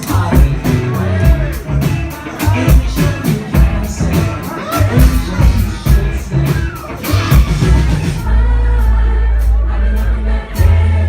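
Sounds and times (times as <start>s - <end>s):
live band playing: 0.0s - 11.0s
person singing: 0.0s - 11.0s
steady drum beat: 0.0s - 11.0s.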